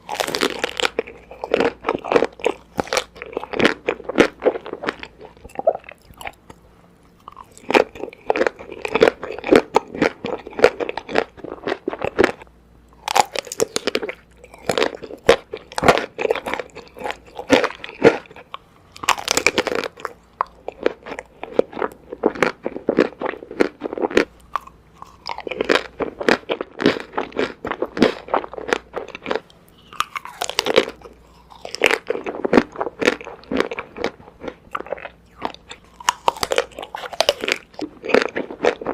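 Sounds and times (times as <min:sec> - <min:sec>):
crunching and chewing candy bars: 0:00.0 - 0:38.9.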